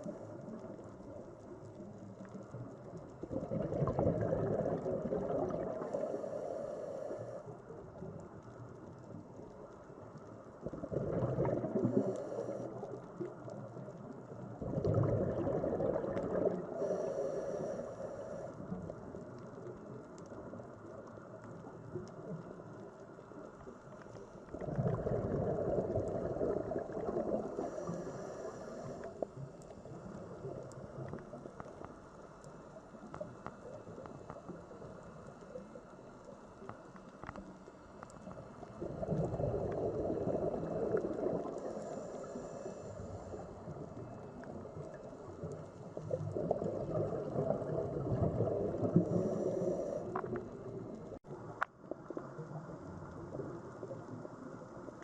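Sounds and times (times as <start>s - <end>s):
underwater rushing gurgling wash: 0.0s - 31.9s, 38.1s - 55.0s
faint clicks: 0.0s - 55.0s.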